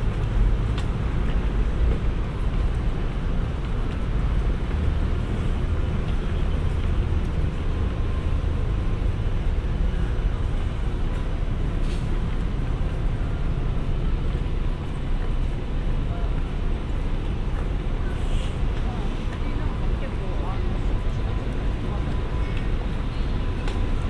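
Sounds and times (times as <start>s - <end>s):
distant city traffic: 0.0s - 24.0s.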